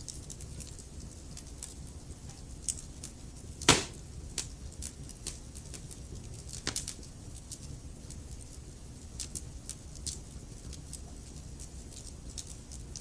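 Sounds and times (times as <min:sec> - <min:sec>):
logs crackling in fireplace: 0:00.0 - 0:13.0.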